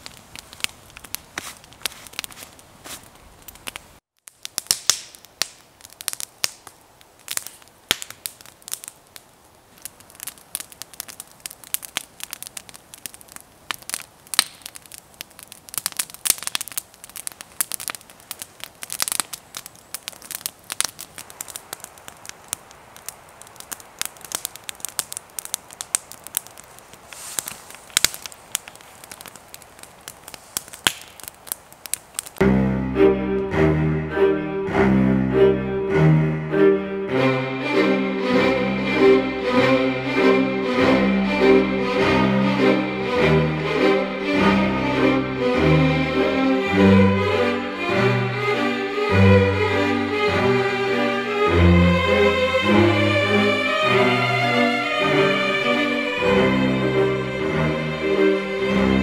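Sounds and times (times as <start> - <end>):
campfire crackling and popping: 0.0 - 34.0, 37.2 - 59.0.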